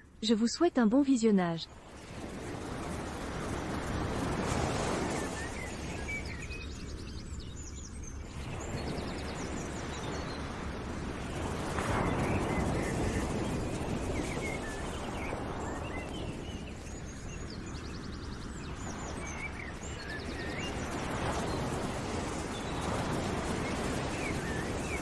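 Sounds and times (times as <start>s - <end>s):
steady rushing noise: 1.7s - 7.4s, 8.0s - 25.0s.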